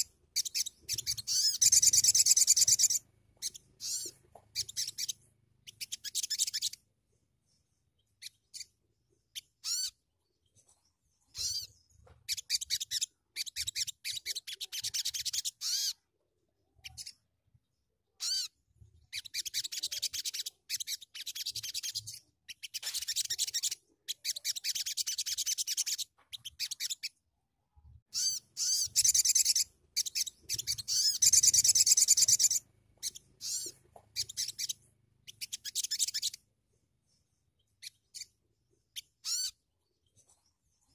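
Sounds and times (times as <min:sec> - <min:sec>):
bird chattering chirps: 0:00.0 - 0:06.8, 0:07.5 - 0:16.0, 0:16.8 - 0:17.2, 0:18.2 - 0:27.2, 0:28.1 - 0:36.5, 0:37.1 - 0:40.9.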